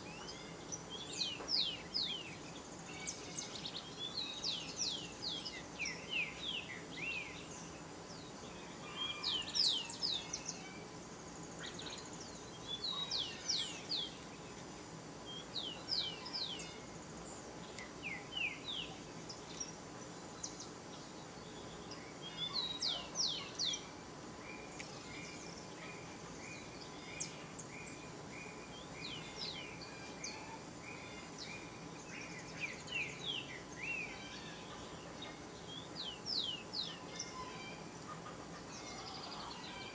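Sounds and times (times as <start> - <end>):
faint steady hum: 0.0 - 39.9
lower evenly spaced bird notes: 0.0 - 39.9.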